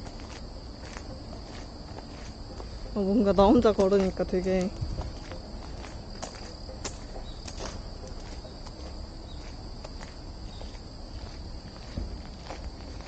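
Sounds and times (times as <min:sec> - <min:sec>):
footsteps on soft forest path: 0:00.0 - 0:13.0
high-pitched insect buzz: 0:00.0 - 0:13.0.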